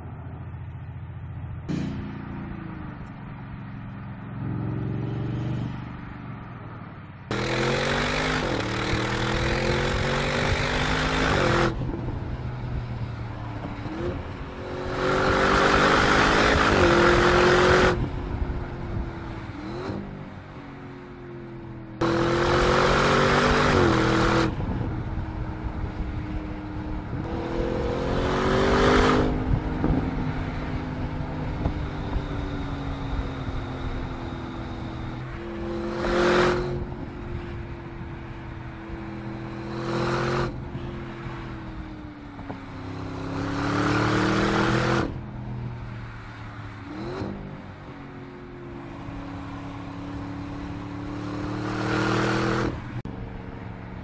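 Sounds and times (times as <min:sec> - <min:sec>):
car passing rush: 0:00.0 - 0:54.0.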